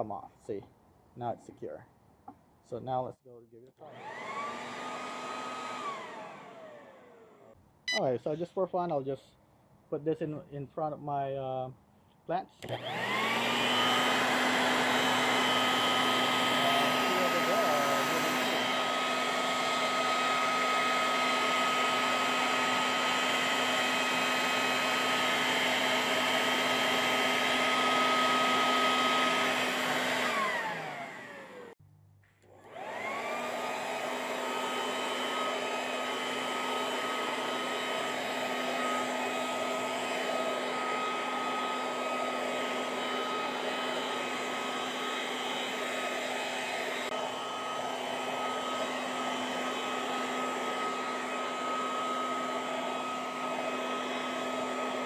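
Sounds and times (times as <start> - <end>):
electric leaf blower running: 3.9 - 7.6, 12.6 - 31.8, 32.5 - 55.0.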